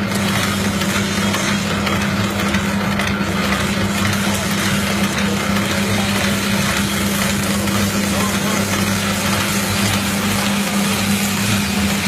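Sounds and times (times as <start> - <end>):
machine motor humming and whirring: 0.0 - 12.0.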